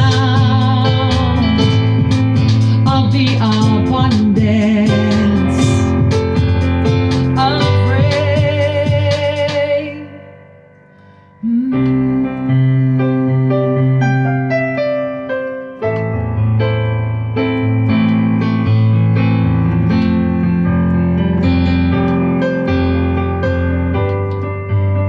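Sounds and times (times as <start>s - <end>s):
electric keyboard chords: 0.0s - 25.0s.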